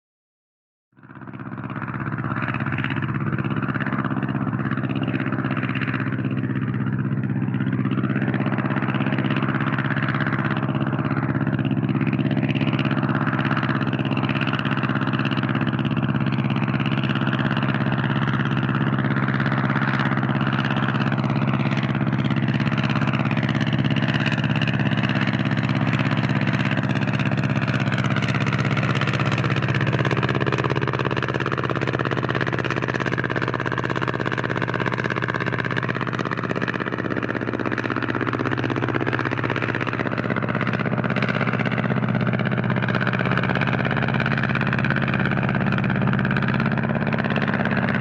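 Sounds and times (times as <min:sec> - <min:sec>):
propeller plane engine drone: 0:00.9 - 0:48.0.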